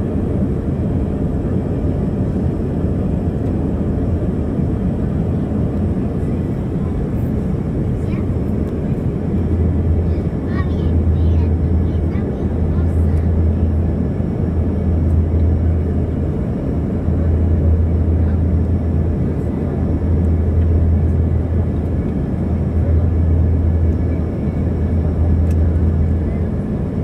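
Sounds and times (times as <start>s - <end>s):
airliner cabin drone: 0.0s - 27.0s.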